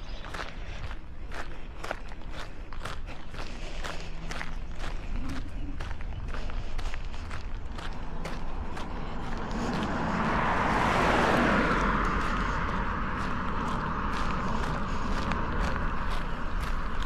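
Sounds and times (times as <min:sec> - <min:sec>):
car passing: 0:00.0 - 0:17.0
footsteps on pavement: 0:00.0 - 0:17.0.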